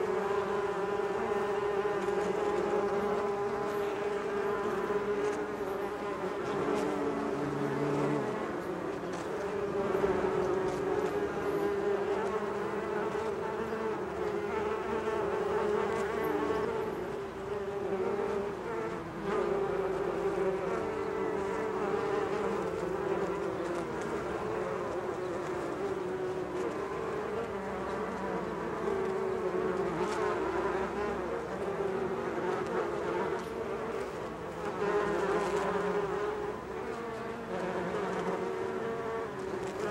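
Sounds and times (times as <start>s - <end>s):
swarm of bees buzzing: 0.0s - 39.9s.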